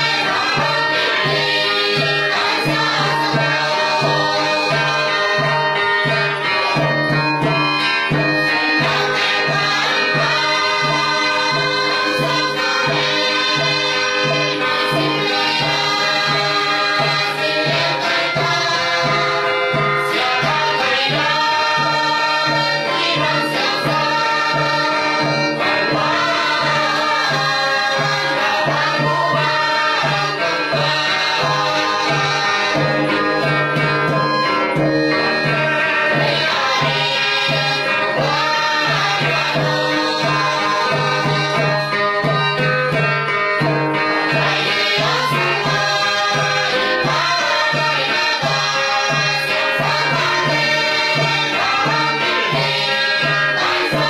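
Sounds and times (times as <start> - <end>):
praise song with vocals: 0.0 - 54.0.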